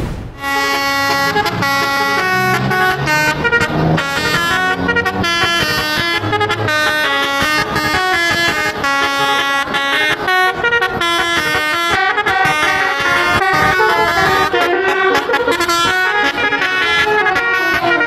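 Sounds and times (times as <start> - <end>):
air horn playing a quick melody: 0.4 - 18.0.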